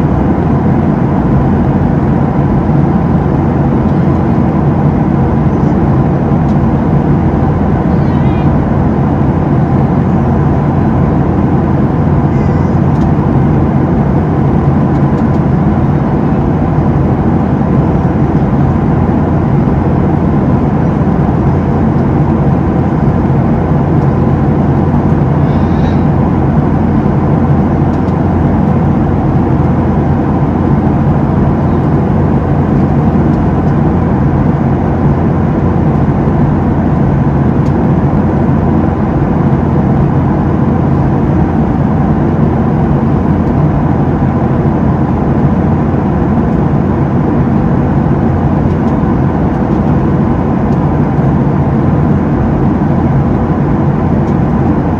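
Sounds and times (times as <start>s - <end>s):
airplane cabin engine drone: 0.0s - 54.9s
rushing air in cabin: 0.0s - 54.9s.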